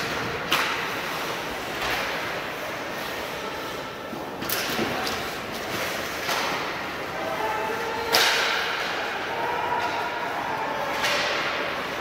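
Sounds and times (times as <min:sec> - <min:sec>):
crowd and court noise: 0:00.0 - 0:12.0.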